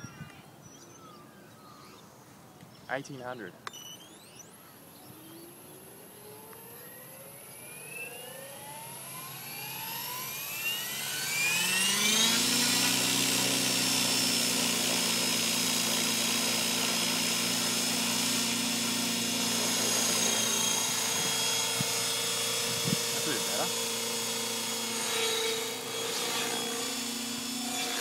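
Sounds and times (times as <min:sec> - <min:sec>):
model helicopter whine: 0:03.6 - 0:28.0.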